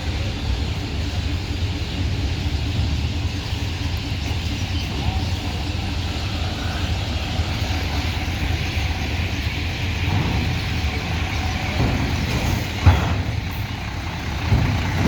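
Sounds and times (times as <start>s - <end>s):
heavy vehicle engine rumbling: 0.0s - 15.0s.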